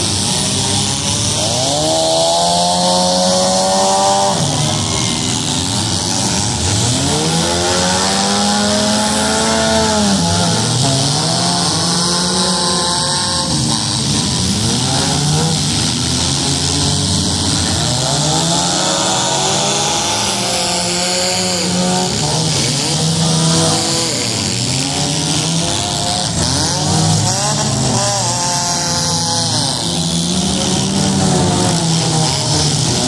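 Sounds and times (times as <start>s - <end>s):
car engines revving hard: 0.0s - 33.0s
engines running: 0.0s - 33.0s.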